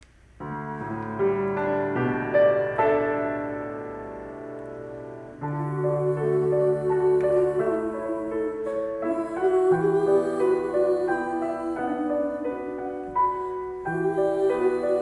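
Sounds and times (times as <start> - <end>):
slow solo piano: 0.2 - 15.0.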